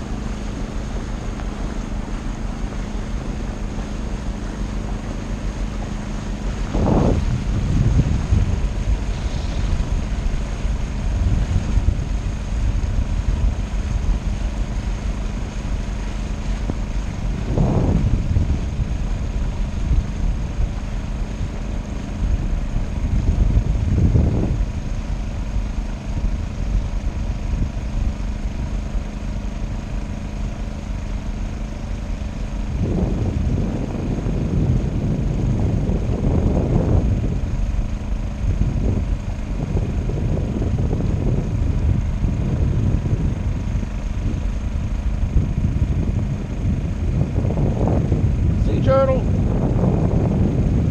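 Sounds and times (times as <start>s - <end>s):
boat engine humming: 0.0s - 50.9s
wind rumbling on microphone: 0.0s - 50.9s.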